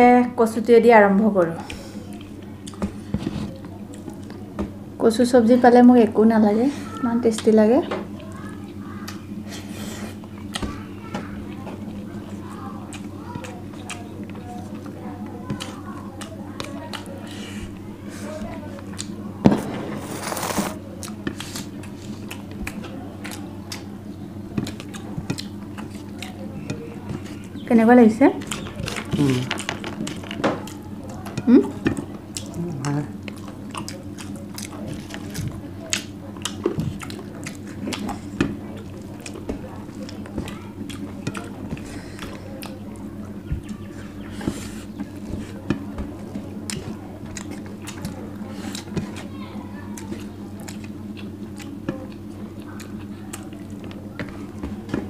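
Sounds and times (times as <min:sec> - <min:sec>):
low steady hum: 0:00.0 - 0:55.0
chewing: 0:01.6 - 0:04.5, 0:08.1 - 0:55.0
fingers mixing rice on plates: 0:08.1 - 0:19.3, 0:20.2 - 0:55.0.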